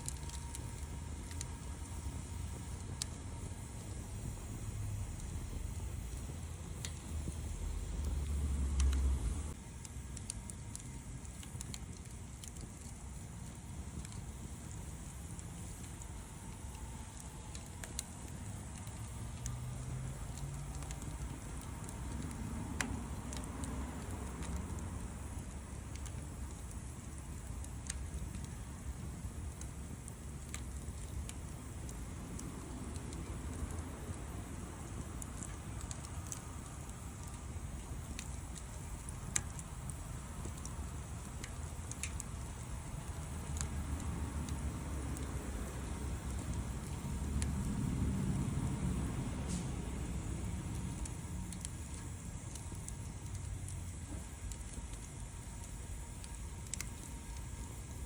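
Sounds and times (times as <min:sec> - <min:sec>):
campfire crackling and popping: 0:00.0 - 0:58.0
steady low rumble: 0:00.0 - 0:58.0.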